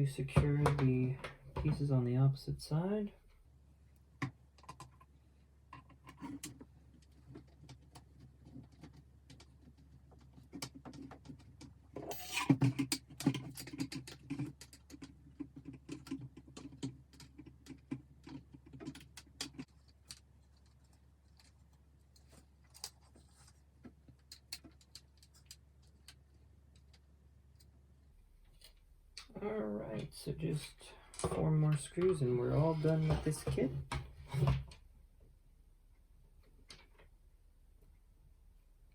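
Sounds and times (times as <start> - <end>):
handling clicks taps and scrapes: 0.1 - 2.0, 3.9 - 29.3, 30.9 - 34.8, 36.4 - 37.1.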